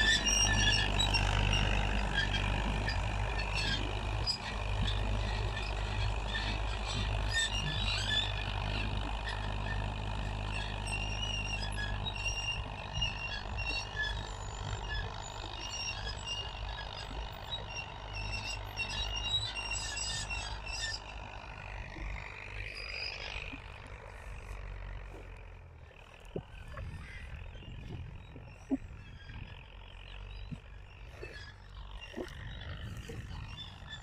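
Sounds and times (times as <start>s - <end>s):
tractor diesel engine drone: 0.0s - 34.0s.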